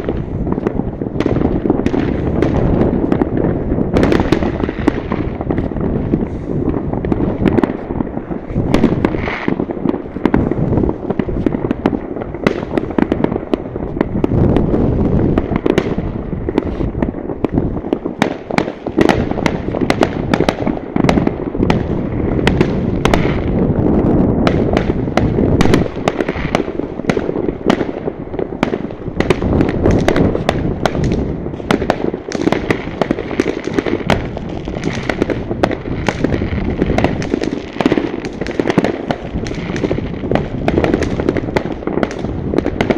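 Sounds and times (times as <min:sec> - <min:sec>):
distant explosions rumbling: 0:00.0 - 0:42.9
fireworks bangs and pops: 0:00.0 - 0:42.9.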